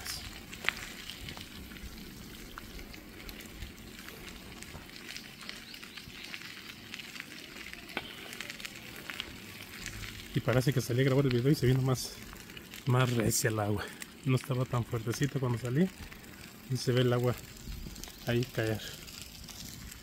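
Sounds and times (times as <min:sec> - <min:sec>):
rain on wet pavement: 0:00.0 - 0:20.0.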